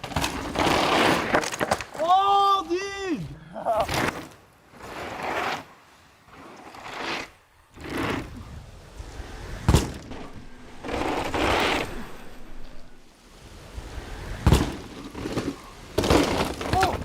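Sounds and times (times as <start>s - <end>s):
tyre and wind rushing: 0.0s - 17.0s.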